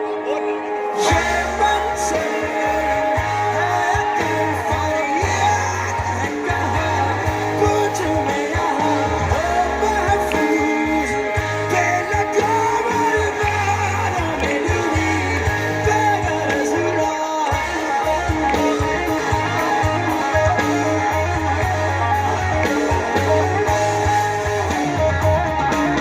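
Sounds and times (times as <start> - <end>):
electric guitar: 0.0 - 26.0
person singing: 0.0 - 26.0
drums: 0.9 - 26.0
bass: 1.0 - 26.0.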